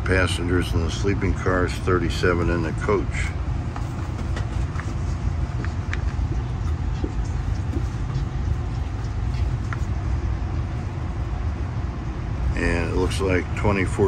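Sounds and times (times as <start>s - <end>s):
low rumble of moving train: 0.0s - 14.0s.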